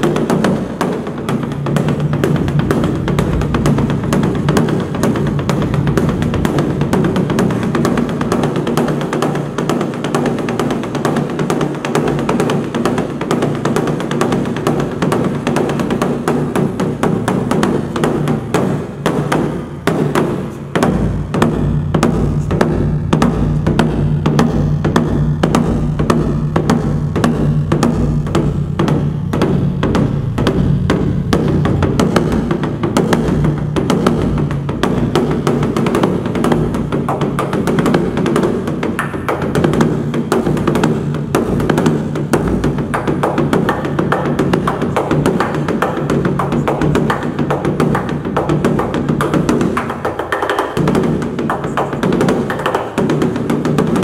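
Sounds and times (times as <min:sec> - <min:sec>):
large barrel drum beaten: 0:00.0 - 0:54.0.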